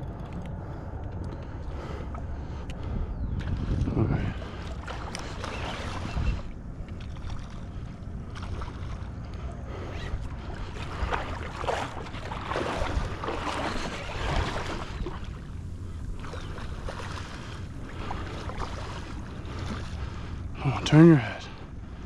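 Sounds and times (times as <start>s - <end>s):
wind buffeting microphone: 0.0s - 20.9s
water splashing around boat: 0.0s - 22.0s.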